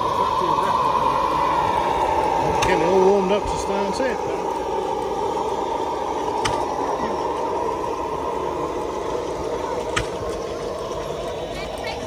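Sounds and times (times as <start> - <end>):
crowd babble: 0.0 - 12.0.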